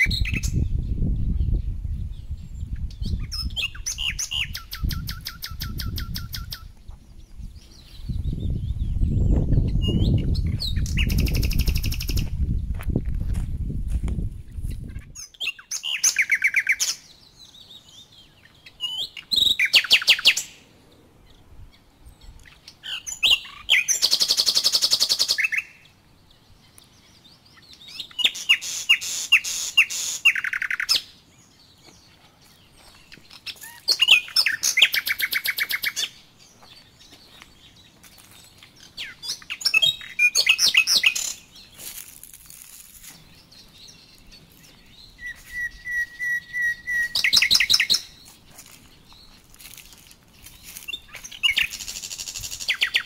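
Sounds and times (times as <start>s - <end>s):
songbird trilling: 0.0s - 12.4s, 14.6s - 20.6s, 21.2s - 31.8s, 32.8s - 41.8s, 43.3s - 49.4s, 50.4s - 53.0s.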